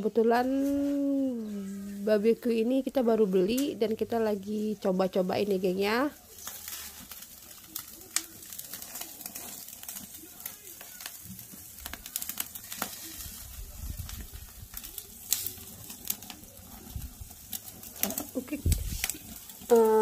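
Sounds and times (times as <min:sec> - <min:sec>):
meat sizzling on a grill: 0:00.0 - 0:20.0
sharp crackles and clicks: 0:00.0 - 0:20.0.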